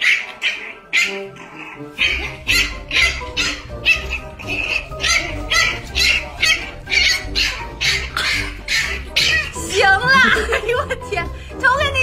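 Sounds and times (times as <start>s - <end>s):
puppy barking: 0.0s - 10.2s
background music with steady beat: 0.0s - 12.0s.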